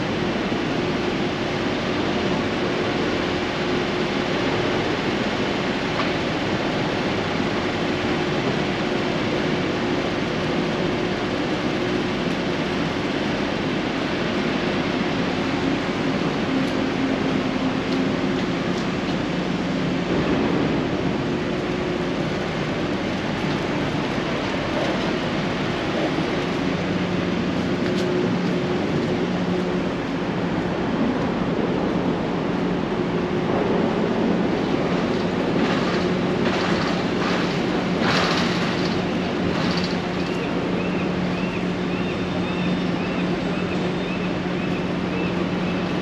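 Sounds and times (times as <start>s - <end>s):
low mechanical hum: 0.0s - 46.0s
street traffic rush: 0.0s - 46.0s.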